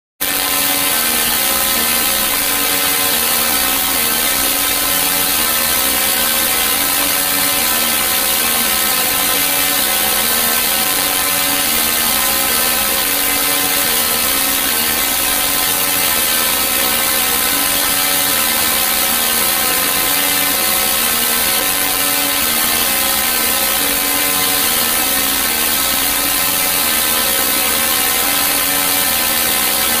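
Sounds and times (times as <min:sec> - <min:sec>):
harsh electronic buzz with wobble: 0:00.2 - 0:30.0.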